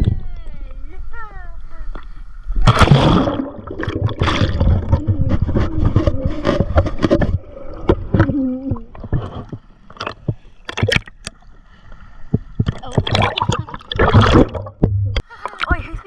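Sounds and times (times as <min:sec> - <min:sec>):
water splashing and sloshing: 0:02.0 - 0:16.0.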